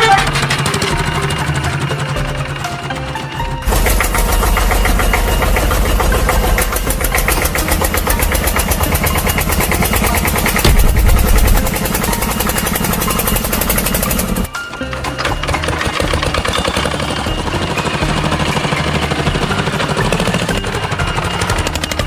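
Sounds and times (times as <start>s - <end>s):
diesel engine knocking: 0.0s - 22.0s.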